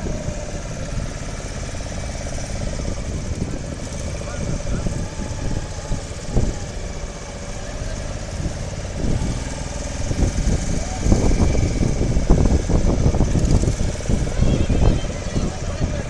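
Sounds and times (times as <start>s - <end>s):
motorboat engine running: 0.0s - 16.0s
wind on microphone rumble: 0.0s - 16.0s.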